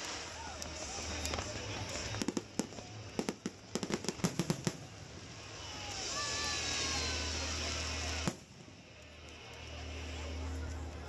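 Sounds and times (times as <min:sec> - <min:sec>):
firework hiss with whistles: 0:00.0 - 0:11.0
fireworks crackling pops: 0:00.0 - 0:11.0.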